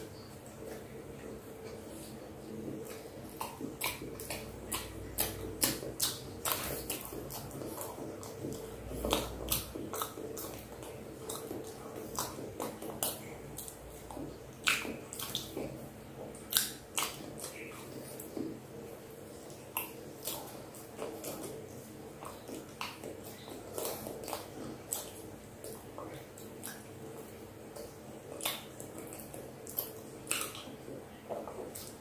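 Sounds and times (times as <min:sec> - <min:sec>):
lip smacks: 0:00.0 - 0:18.6, 0:19.3 - 0:32.0
wet chewing clicks: 0:00.0 - 0:32.0.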